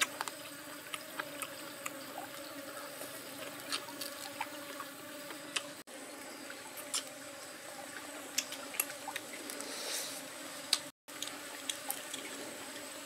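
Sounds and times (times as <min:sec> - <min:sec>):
insect buzz: 0:00.0 - 0:13.0.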